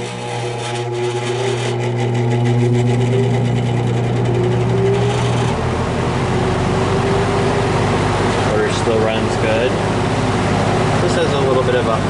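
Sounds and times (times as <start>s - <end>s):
fan motor spinning up: 0.0s - 12.0s
low motor hum: 0.0s - 12.0s.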